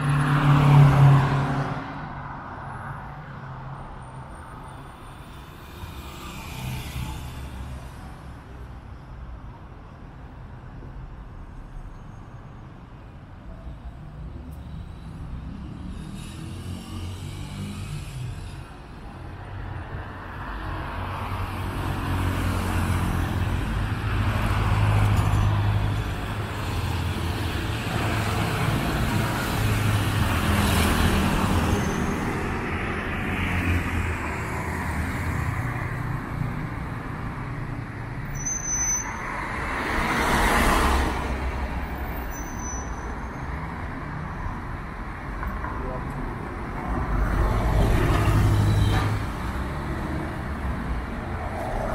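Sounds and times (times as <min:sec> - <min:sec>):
vehicles passing: 0:00.0 - 0:11.9, 0:12.7 - 0:51.9.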